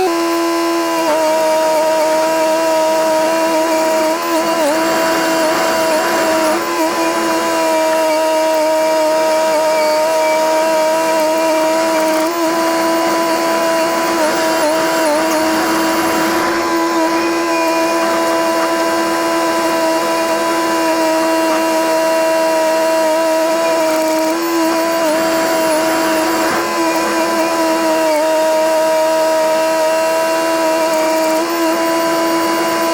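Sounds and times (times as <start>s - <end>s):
bulldozer high whine: 0.0s - 32.9s.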